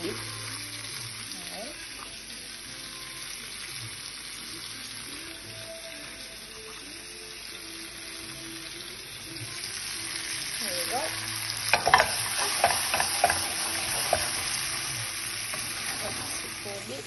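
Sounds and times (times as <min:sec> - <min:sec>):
fish and onions sizzling in oil: 0:00.0 - 0:17.0.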